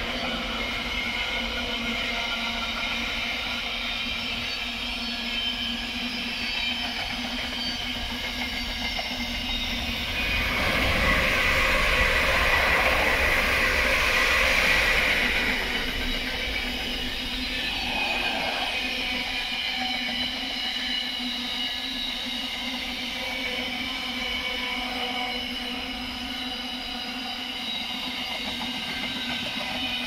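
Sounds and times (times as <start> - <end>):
freight train rolling past: 0.0 - 30.0
passenger train passing: 0.0 - 30.0.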